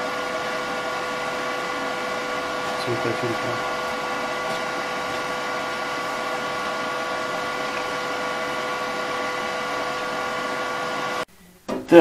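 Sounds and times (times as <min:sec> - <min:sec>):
machine fan whir: 0:00.0 - 0:11.3.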